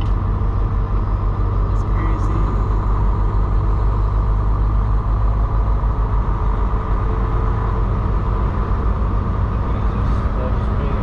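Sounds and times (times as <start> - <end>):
road noise: 0.0 - 11.0
truck diesel engine rumbling: 0.0 - 11.0.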